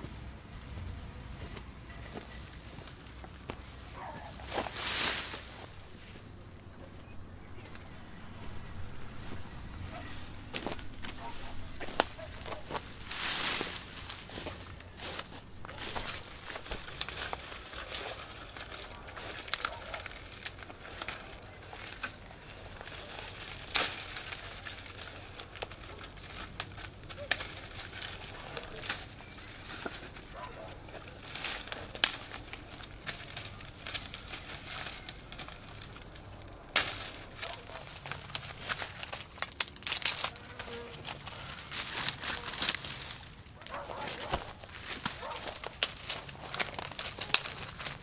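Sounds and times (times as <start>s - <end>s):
footsteps through tall grass: 0.0s - 48.0s
dry twigs crackling and snapping: 1.4s - 48.0s.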